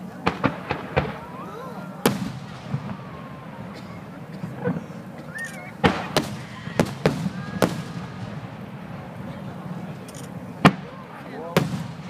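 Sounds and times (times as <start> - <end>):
firework bangs: 0.0 - 12.0
murmur of crowd voices: 0.0 - 12.0.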